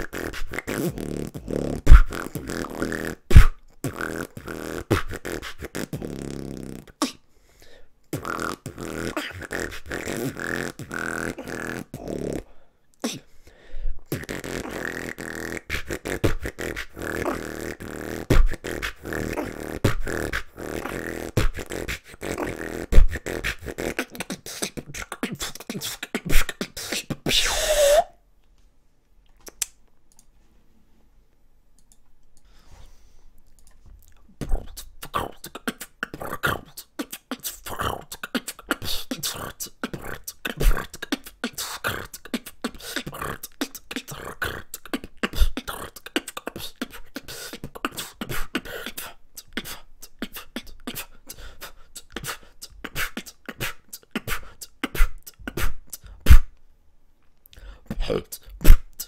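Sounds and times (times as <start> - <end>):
man beatboxing: 0.0 - 7.2, 8.1 - 12.4, 13.0 - 13.3, 14.0 - 28.1, 34.4 - 56.5, 57.6 - 59.0.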